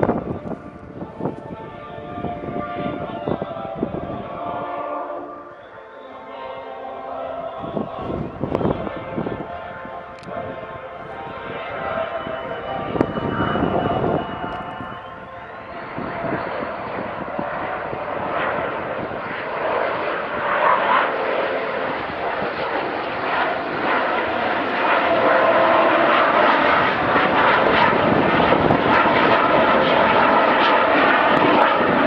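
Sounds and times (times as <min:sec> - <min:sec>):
jet engine flying past: 0:00.0 - 0:32.0.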